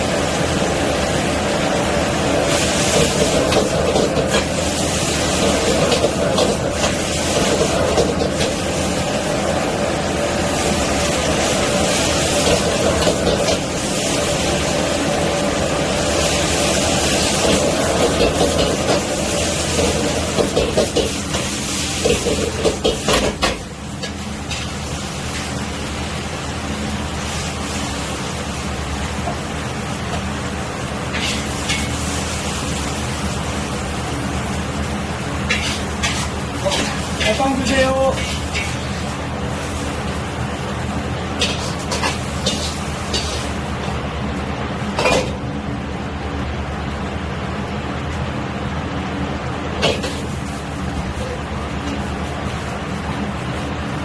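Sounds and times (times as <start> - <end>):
food sizzling in wok: 0.0 - 54.0
gas burner roaring: 0.0 - 54.0
stir-frying hiss: 0.0 - 54.0.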